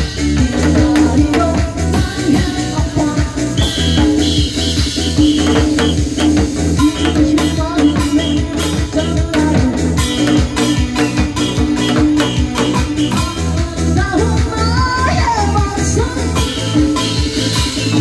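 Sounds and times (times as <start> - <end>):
loud music with bass beat: 0.0 - 18.0.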